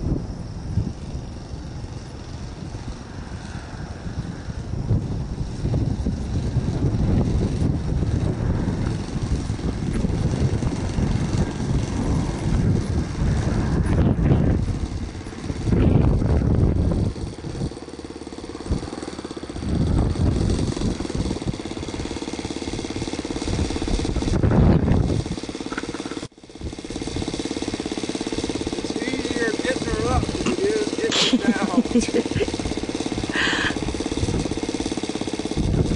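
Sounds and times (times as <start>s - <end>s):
model airplane engine running: 0.0s - 35.9s
wind buffeting microphone: 0.0s - 35.9s.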